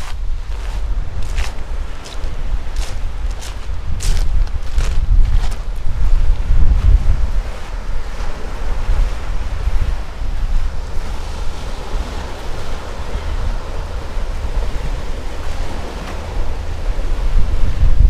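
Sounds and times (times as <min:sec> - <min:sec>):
small waves breaking on shore: 0:00.0 - 0:18.0
wind buffeting microphone: 0:00.0 - 0:18.0.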